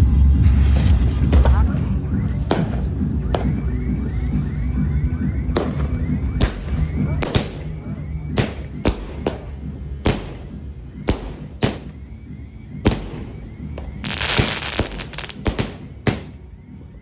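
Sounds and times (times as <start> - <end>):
dense noisy fireworks burst: 0.0 - 17.0
fireworks bangs with echo: 0.5 - 16.8.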